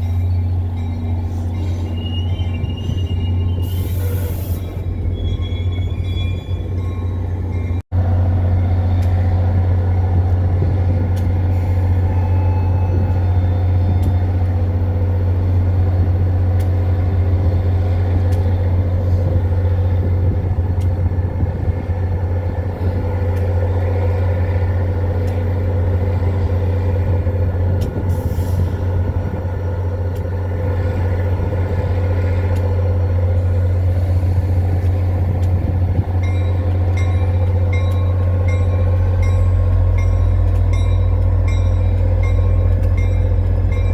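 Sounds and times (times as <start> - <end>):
diesel locomotive engine running: 0.0 - 43.9.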